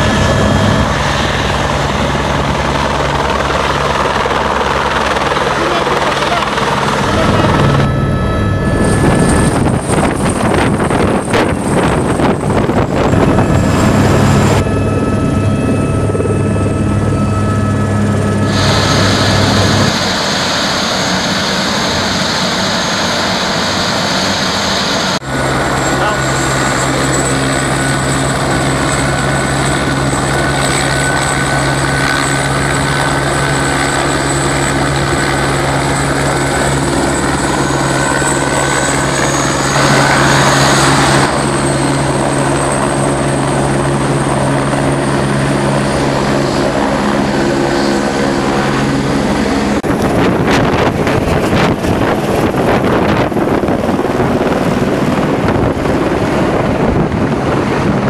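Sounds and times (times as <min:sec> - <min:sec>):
helicopter rotor chopping: 0:00.0 - 0:58.0
turboprop airplane turbine whine: 0:00.0 - 0:58.0.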